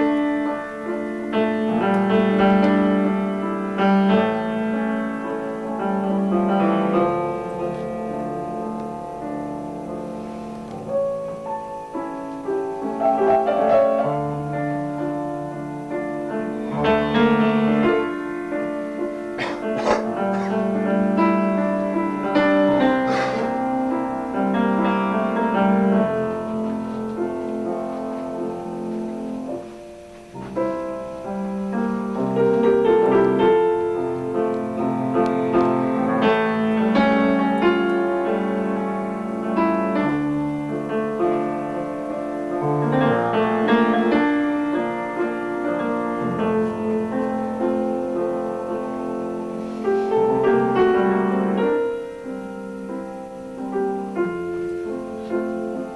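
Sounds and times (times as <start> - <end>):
piano playing: 0.0 - 55.9.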